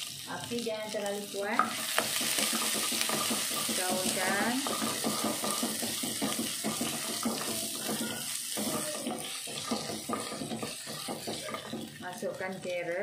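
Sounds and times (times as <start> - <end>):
beans sizzling in hot oil: 0.0 - 13.0.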